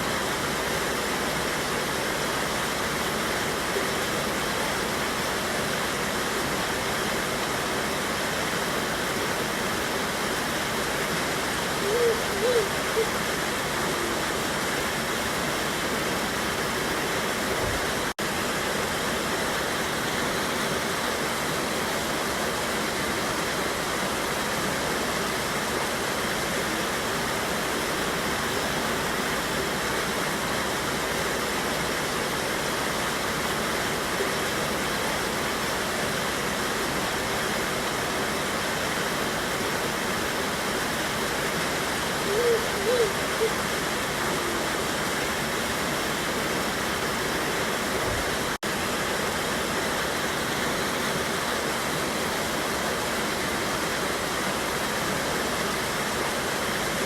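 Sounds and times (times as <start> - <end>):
waterfall roaring over rocks: 0.0 - 57.0.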